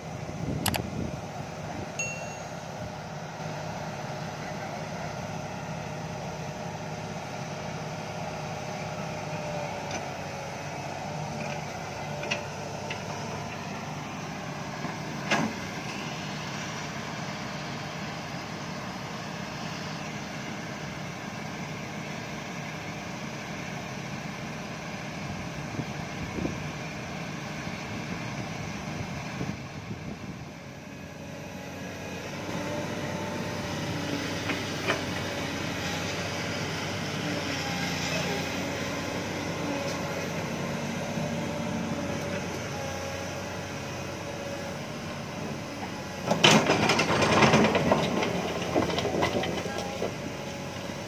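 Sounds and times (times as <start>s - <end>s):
diesel machinery running: 0.0s - 51.0s.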